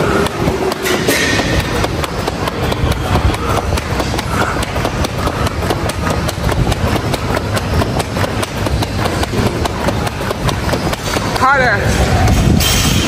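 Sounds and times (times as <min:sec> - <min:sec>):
battle ropes slapping floor: 0:00.0 - 0:13.0.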